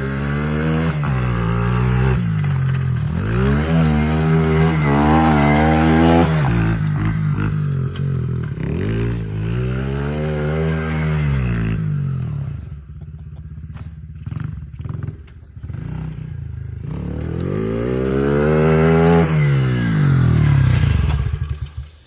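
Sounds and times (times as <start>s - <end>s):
small motorbike engine revving: 0.0s - 13.0s, 13.6s - 22.0s.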